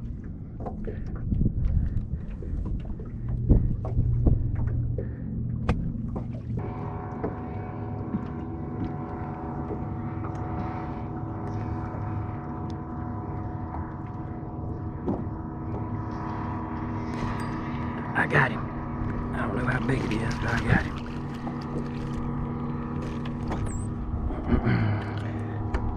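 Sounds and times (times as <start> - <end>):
low hum: 0.0 - 25.9
trolling motor whine: 0.0 - 25.9.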